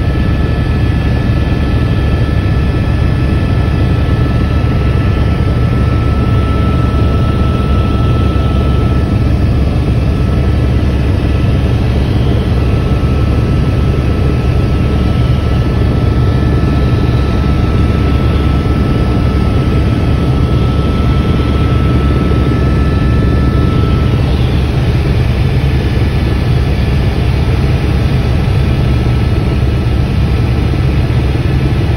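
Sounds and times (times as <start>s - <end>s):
helicopter rotor and engine drone: 0.0s - 31.9s
thin steady whine: 0.0s - 31.9s.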